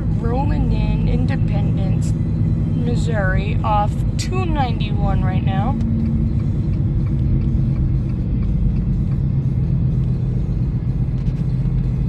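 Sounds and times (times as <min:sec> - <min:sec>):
car engine hum: 0:00.0 - 0:12.0
road noise inside moving car: 0:00.0 - 0:12.0.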